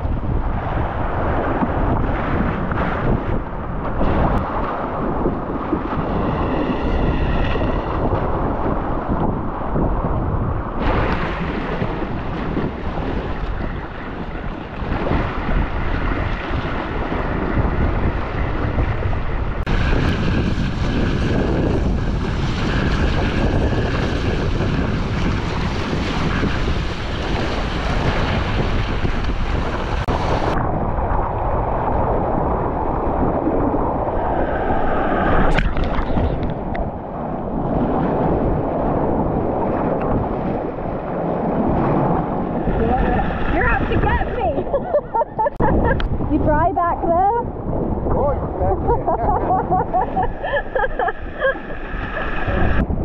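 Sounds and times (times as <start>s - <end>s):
waves rushing along hull: 0.0s - 53.0s
wind buffeting microphone: 0.0s - 53.0s.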